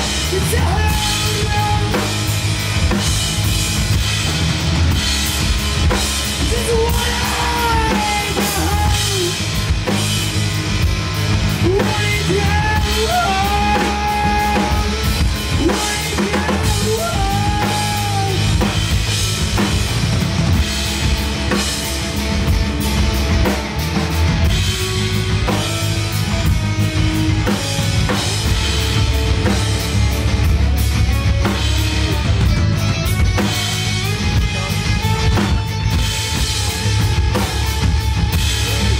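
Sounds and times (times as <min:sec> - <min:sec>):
electric guitar lead bending: 0:00.0 - 0:38.9
live rock band playing: 0:00.0 - 0:38.9.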